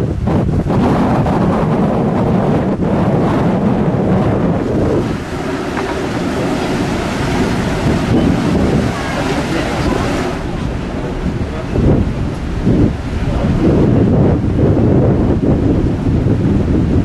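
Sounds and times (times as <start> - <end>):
propeller wash churning: 0.0 - 17.0
wind buffeting microphone: 0.0 - 17.0.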